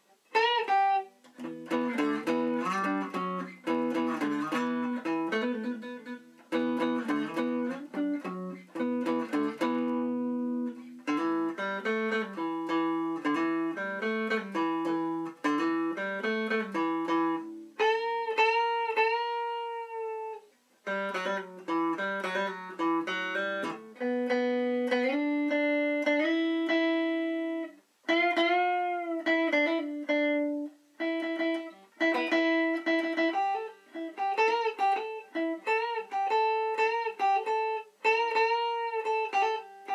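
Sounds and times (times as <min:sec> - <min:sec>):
electric guitar notes and chords: 0:00.0 - 0:39.9.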